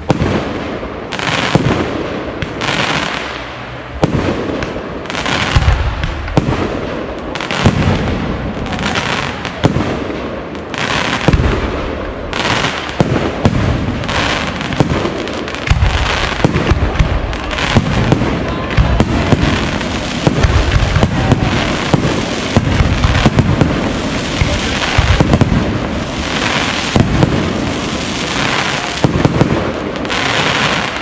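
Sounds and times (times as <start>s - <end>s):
firework crackling: 0.0s - 31.0s.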